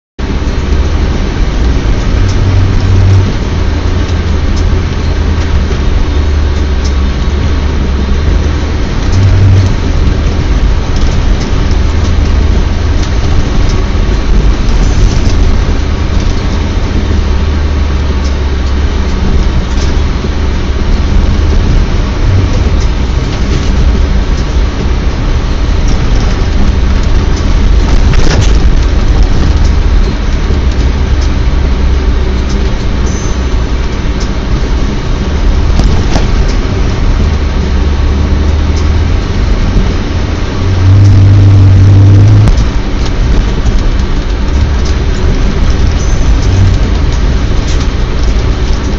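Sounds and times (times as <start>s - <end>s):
diesel engine drone: 0.0s - 48.9s.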